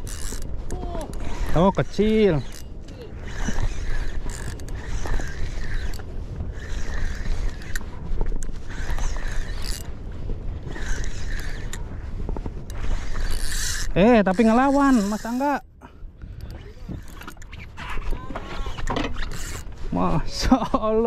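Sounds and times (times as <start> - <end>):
fishing reel whirring: 0.0 - 15.6, 16.4 - 20.4
reel clicks: 0.0 - 20.0
low wind rumble on microphone: 0.0 - 21.0.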